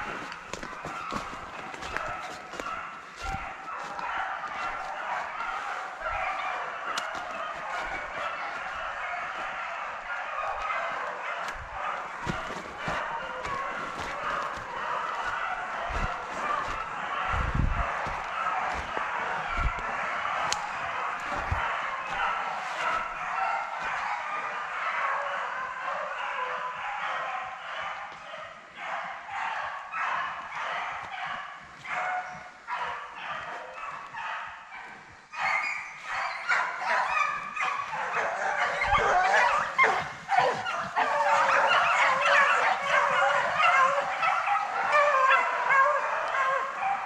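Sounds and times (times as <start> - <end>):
dogs baying: 0.0 - 47.0.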